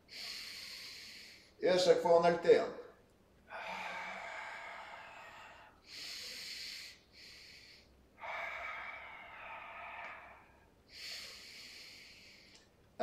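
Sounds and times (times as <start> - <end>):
man breathing deeply: 0.0 - 1.6, 3.5 - 12.8.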